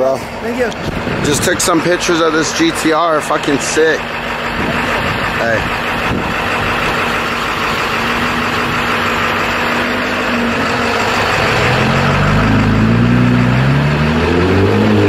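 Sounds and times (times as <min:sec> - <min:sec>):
car engine revving: 0:00.3 - 0:15.0.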